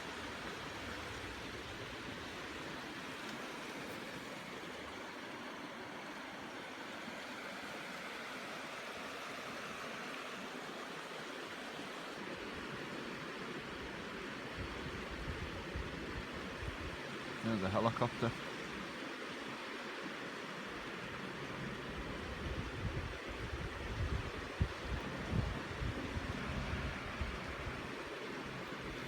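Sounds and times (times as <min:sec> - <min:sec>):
river flowing: 0:00.0 - 0:29.0.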